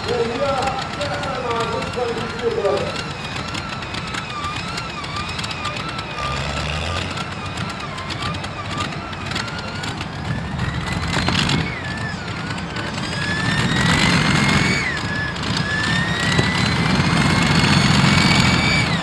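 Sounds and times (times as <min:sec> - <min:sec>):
tractor engine whine and rumble: 0:00.0 - 0:19.0.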